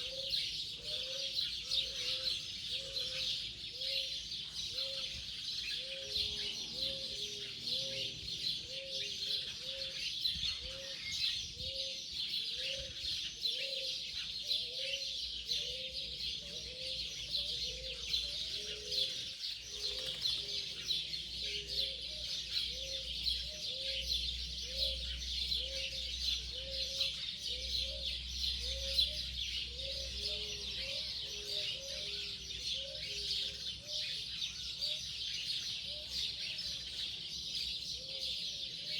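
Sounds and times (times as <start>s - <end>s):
birds chirping rapidly: 0.0s - 38.9s.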